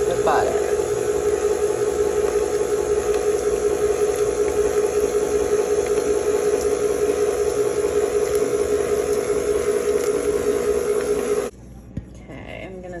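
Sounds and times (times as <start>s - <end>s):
electric mixer whirring: 0.0s - 11.5s.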